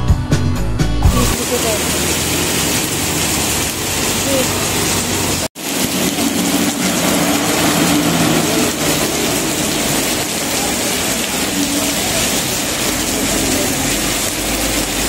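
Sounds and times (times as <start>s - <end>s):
heavy rain on a street: 1.3s - 15.0s
passing traffic engines: 1.4s - 15.0s.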